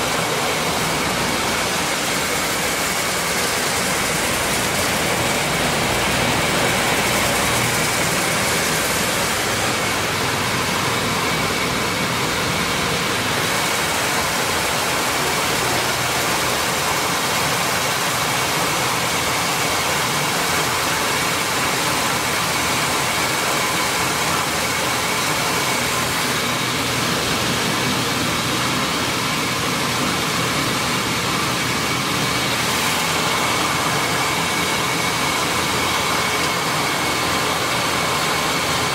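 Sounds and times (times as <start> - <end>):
milling machine running: 0.0 - 38.9.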